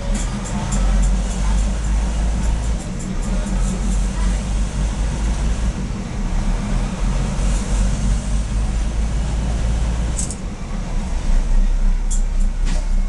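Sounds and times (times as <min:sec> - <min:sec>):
diesel railcar engine rumble: 0:00.0 - 0:13.0.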